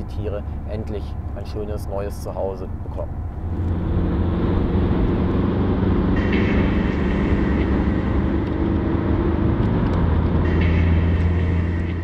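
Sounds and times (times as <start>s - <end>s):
car cabin engine and tyre drone: 0.0s - 12.0s.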